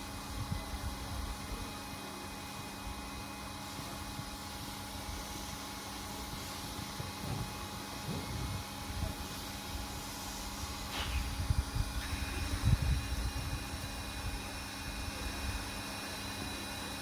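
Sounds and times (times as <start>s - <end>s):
electric air pump humming: 0.0s - 17.0s.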